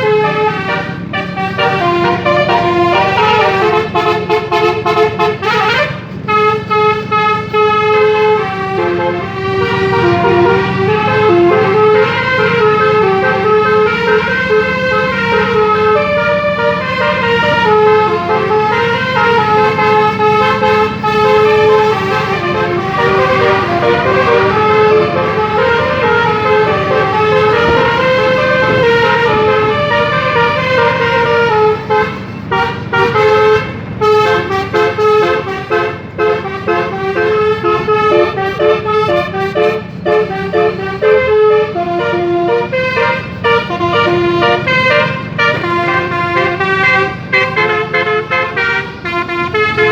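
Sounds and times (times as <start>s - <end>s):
multi-tone bus horn melody: 0.0s - 49.9s.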